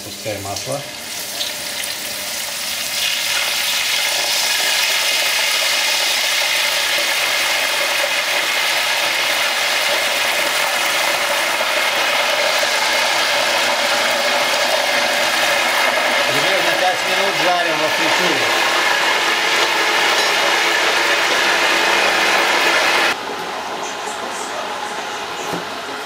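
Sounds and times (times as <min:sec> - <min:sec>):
oil sizzling and bubbling: 0:00.0 - 0:23.2.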